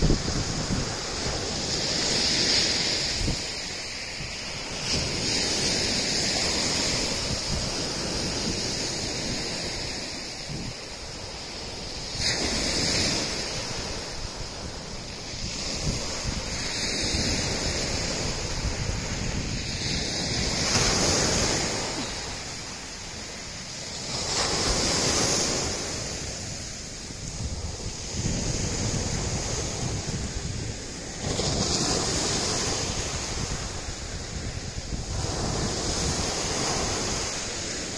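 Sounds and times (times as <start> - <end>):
waves washing on pebble beach: 0.0 - 37.9
wind buffeting microphone: 0.0 - 37.9.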